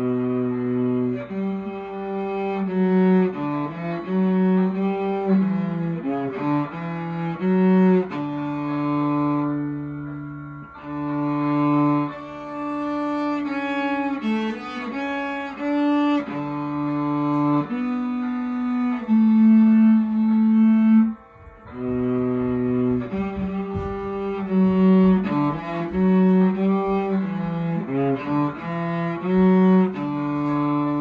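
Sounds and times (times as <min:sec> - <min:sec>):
bowed cello melody: 0:00.0 - 0:31.0.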